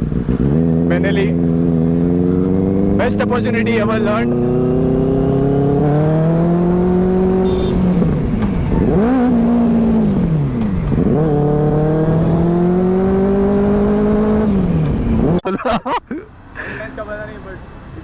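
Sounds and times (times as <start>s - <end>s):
motorcycle engine revving: 0.0s - 15.4s.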